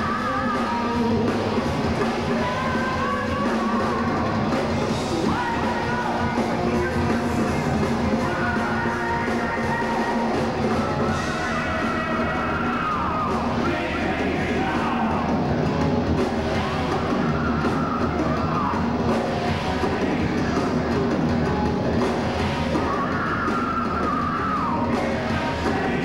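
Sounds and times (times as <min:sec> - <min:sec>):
person singing: 0:00.0 - 0:15.4, 0:16.6 - 0:21.2, 0:22.4 - 0:26.0
heavy metal band playing: 0:00.0 - 0:26.0.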